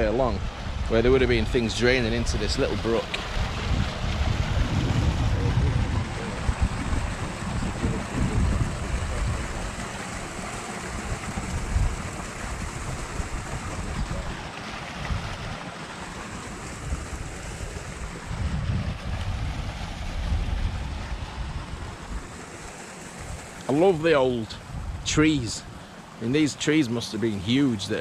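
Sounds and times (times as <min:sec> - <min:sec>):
wind buffeting microphone: 0:00.0 - 0:25.8.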